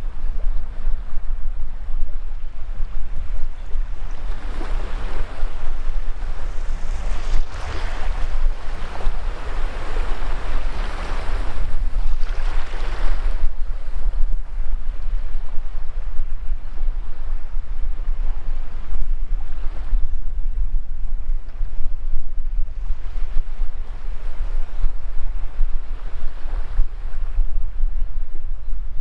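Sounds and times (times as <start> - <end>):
surf washing up a beach: 0.0 - 29.0
wind rumble on microphone: 0.0 - 29.0.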